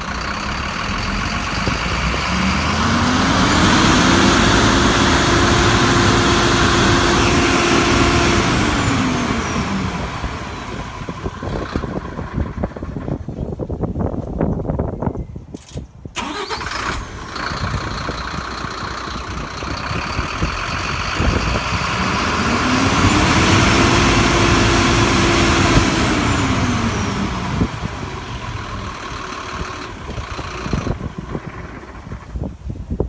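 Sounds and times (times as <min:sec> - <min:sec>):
diesel truck engine revving: 0:00.0 - 0:13.3, 0:16.2 - 0:32.6.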